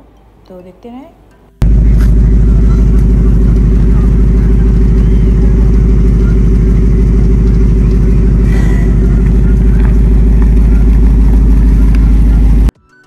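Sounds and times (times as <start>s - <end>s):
car engine idling: 1.6s - 12.7s.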